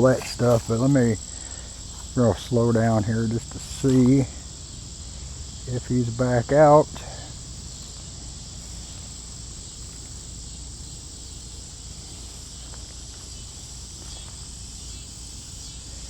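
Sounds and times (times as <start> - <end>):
low background rumble: 0.0 - 14.8
insects chorus: 0.0 - 16.0.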